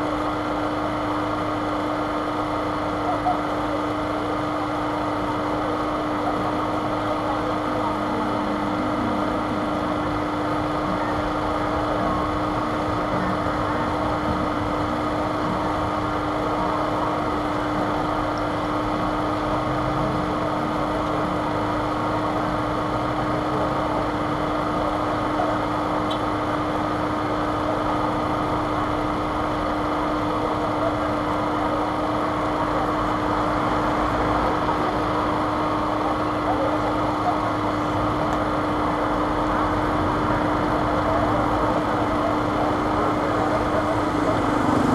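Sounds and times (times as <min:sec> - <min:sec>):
steady mechanical hum: 0:00.0 - 0:44.9.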